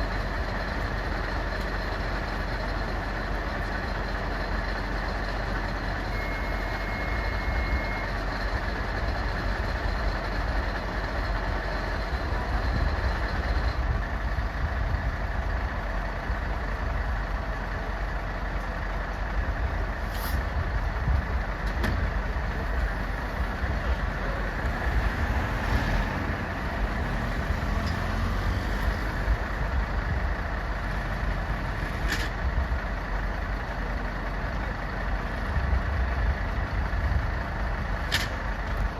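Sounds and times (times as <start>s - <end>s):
heavy vehicle engine idling: 0.0s - 38.9s.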